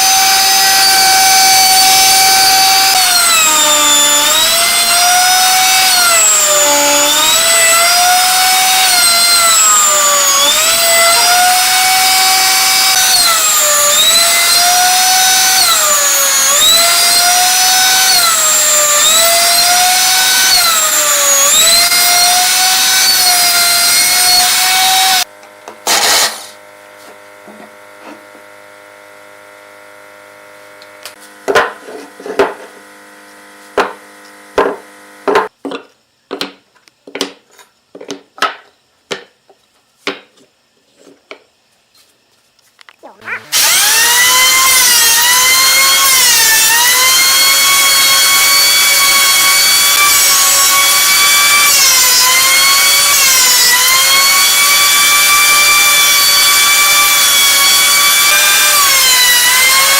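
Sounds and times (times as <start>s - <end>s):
electric motor whining: 0.0s - 35.4s, 43.2s - 59.9s.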